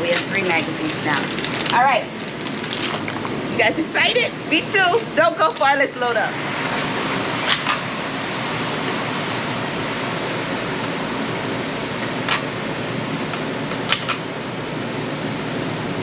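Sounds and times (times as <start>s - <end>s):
ventilation air rushing: 0.0s - 16.0s.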